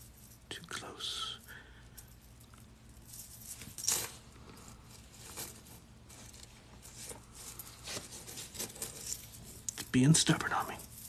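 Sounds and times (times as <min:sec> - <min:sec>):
chainmail rings clinking: 0:00.0 - 0:11.0.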